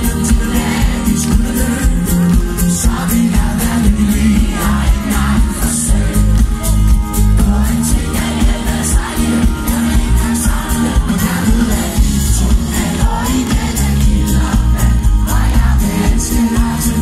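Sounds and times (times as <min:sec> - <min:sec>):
man singing: 0:00.0 - 0:17.0
pop band playing live: 0:00.0 - 0:17.0.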